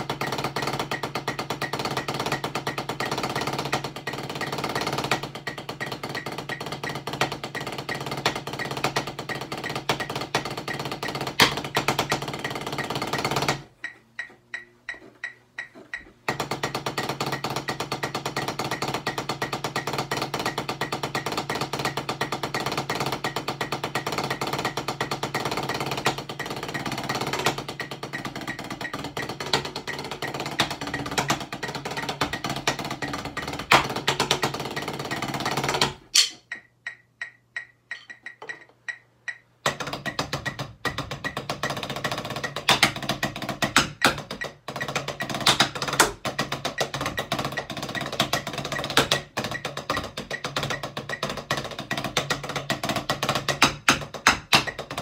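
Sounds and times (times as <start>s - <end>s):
drumsticks on rubber practice pads: 3.6s - 19.6s, 20.6s - 55.0s.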